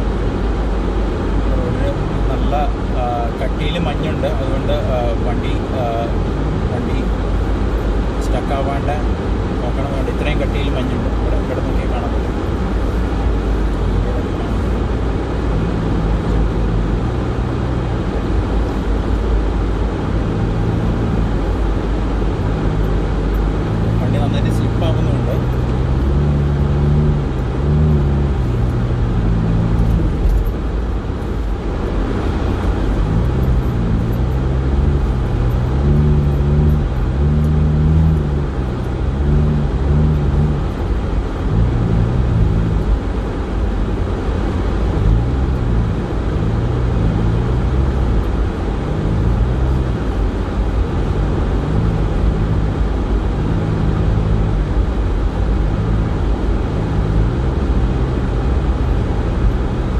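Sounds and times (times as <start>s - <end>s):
car engine hum: 0.0s - 59.9s
tyre and road rumble: 0.0s - 59.9s.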